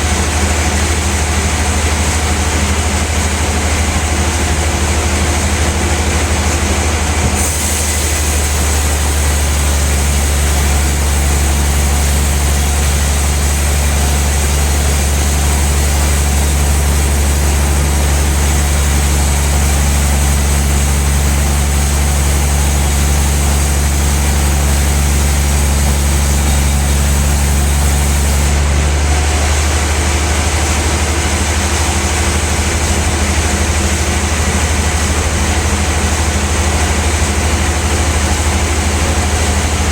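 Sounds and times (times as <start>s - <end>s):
sawmill deep hum: 0.0s - 39.9s.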